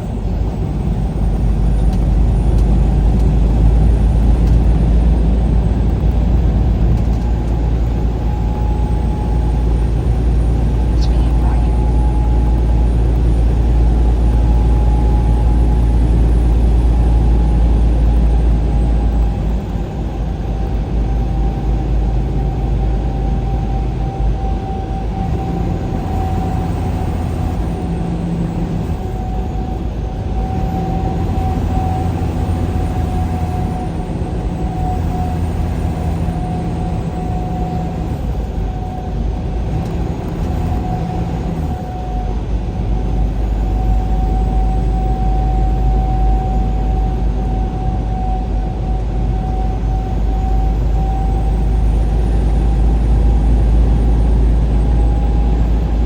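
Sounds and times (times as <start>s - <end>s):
steady whining tone: 0.0s - 56.0s
vehicle engine and road rumble: 0.0s - 56.0s.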